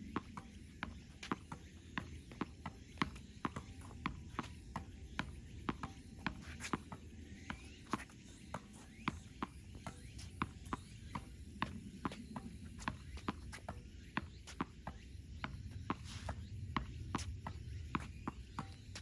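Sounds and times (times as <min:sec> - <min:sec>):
tennis ball bouncing on court: 0:00.0 - 0:19.0
tennis ball hitting rackets: 0:00.1 - 0:19.0.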